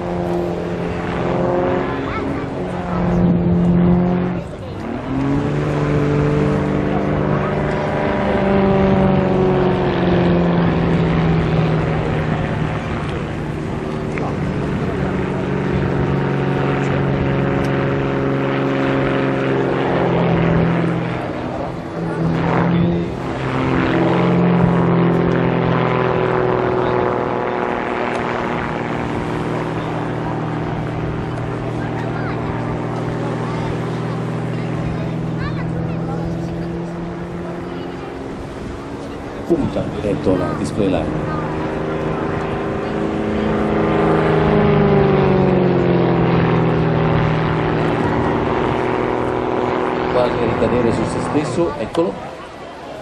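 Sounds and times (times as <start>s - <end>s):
propeller plane engine droning: 0.0s - 53.0s.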